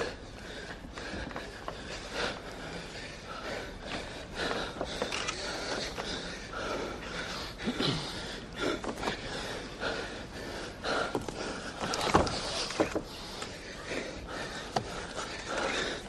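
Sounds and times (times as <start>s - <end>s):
heavy breathing: 0.0s - 16.0s.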